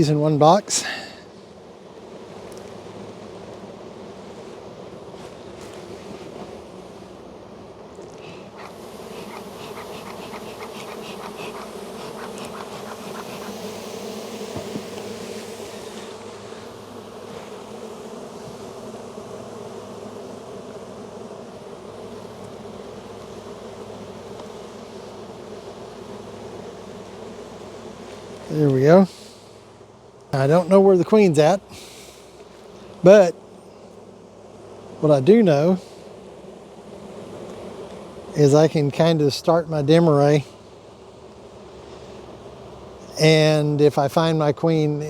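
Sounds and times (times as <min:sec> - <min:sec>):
honey bees humming: 0:00.0 - 0:45.0.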